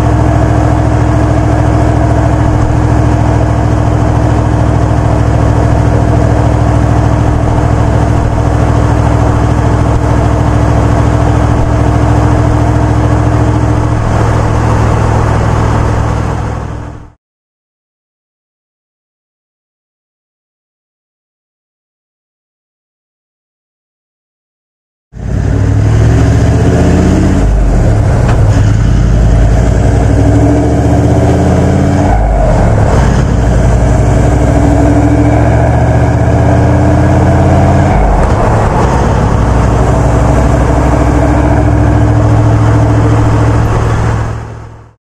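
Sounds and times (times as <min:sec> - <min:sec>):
diesel engine accelerating: 0:00.0 - 0:17.2, 0:25.2 - 0:45.0.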